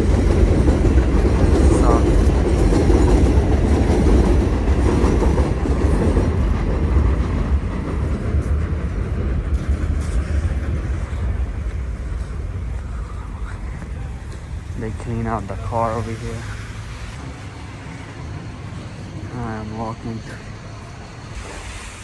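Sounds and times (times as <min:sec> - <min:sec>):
elevated subway train passing: 0:00.0 - 0:22.0.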